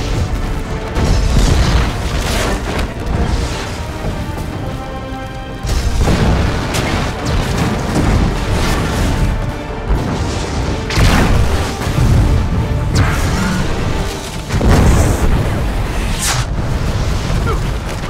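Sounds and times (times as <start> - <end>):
film music: 0.0 - 18.0.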